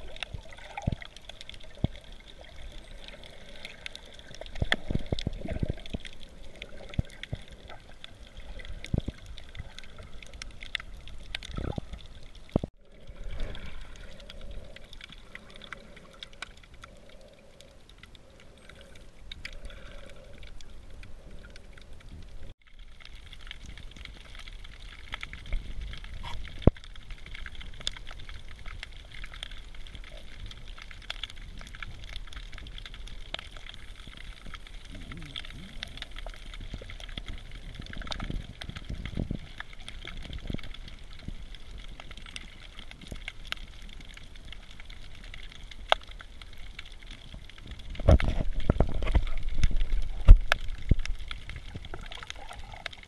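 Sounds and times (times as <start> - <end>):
muffled underwater water movement: 0.0 - 53.0
sharp underwater clicks and crackles: 0.0 - 53.0.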